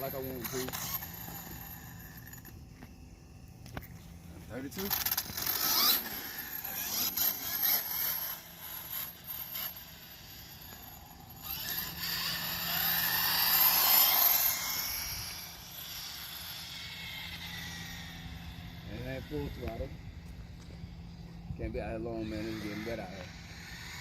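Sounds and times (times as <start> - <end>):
rc truck motor whining: 0.0 - 24.0.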